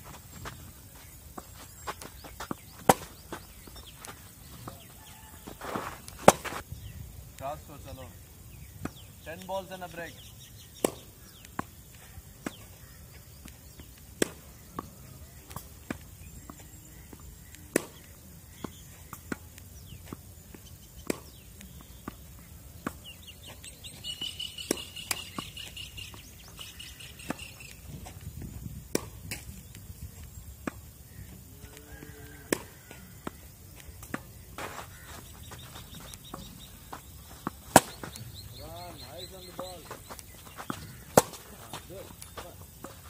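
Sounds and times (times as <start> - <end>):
rackets hitting tennis balls: 0.0 - 6.6, 8.8 - 10.1, 10.8 - 28.2, 28.9 - 31.8, 32.5 - 43.0
bird chirping: 0.2 - 28.5, 29.6 - 43.0.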